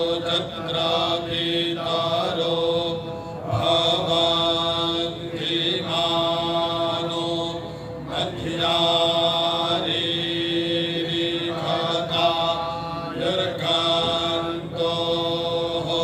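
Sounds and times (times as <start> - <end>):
men chanting in unison: 0.0 - 16.0.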